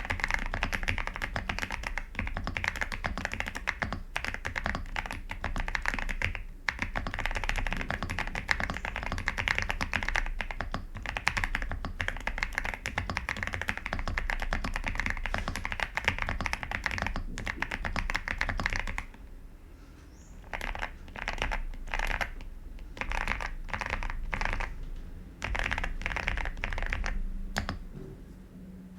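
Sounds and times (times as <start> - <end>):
mechanical keyboard typing: 0.0 - 19.2, 20.4 - 27.9.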